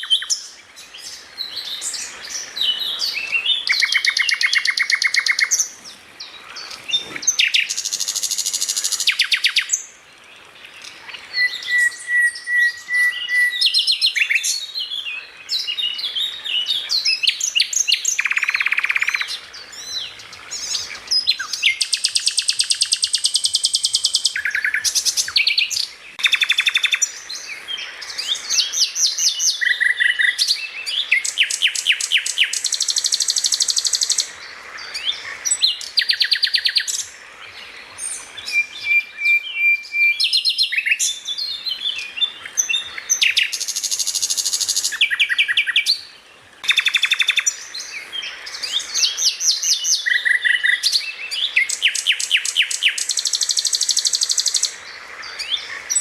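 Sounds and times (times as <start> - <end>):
songbird singing rapid trills: 0.0 - 56.0.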